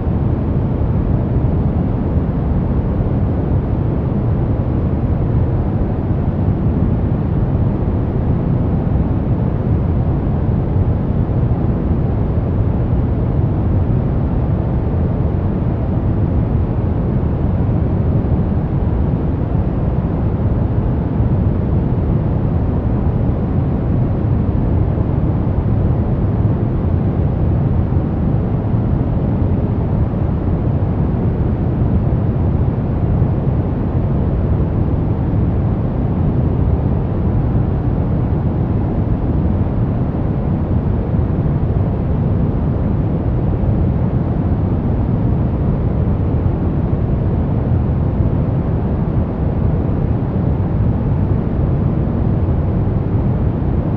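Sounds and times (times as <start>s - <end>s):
steady low noise: 0.0s - 53.9s.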